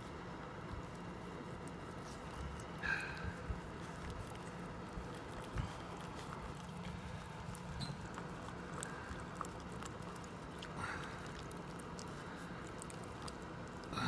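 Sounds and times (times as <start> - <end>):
dog licking puppy: 0.0 - 14.0
low steady hum: 0.0 - 14.0.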